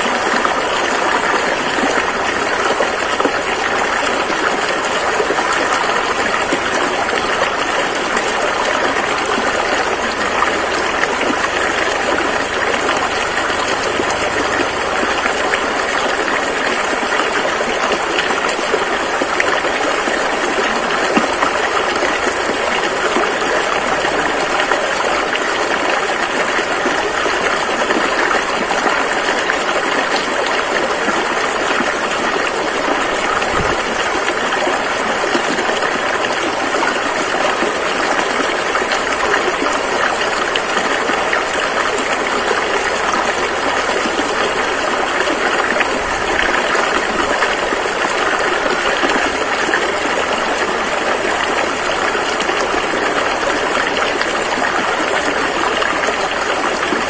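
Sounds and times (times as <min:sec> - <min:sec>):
rushing river: 0:00.0 - 0:57.0.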